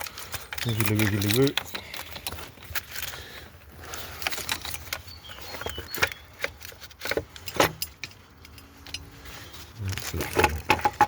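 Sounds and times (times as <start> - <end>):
tools and parts clicking and knocking: 0.0 - 11.0.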